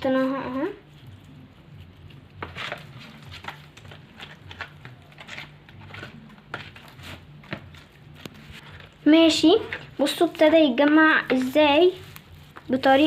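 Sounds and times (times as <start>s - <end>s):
utensil squishing slime in bowl: 0.0s - 13.0s.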